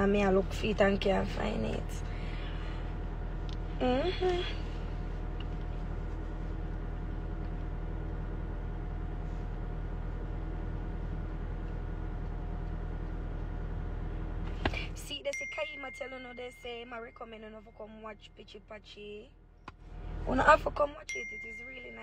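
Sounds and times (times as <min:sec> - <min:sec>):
car engine humming: 0:00.0 - 0:19.0
faint constant whine: 0:00.0 - 0:22.0.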